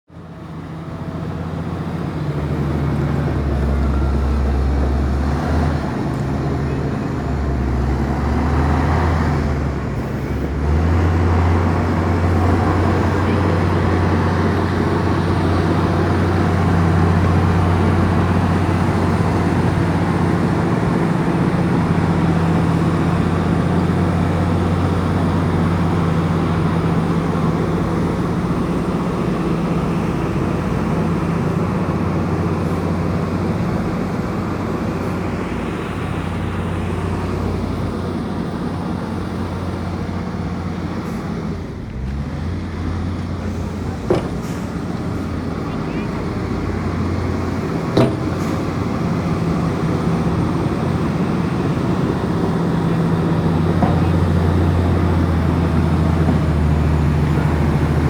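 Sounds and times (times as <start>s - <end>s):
bulldozer diesel engine droning: 0.1s - 58.0s.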